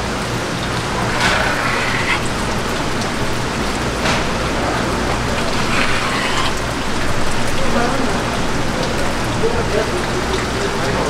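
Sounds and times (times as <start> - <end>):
steady water-like hiss: 0.0 - 11.0.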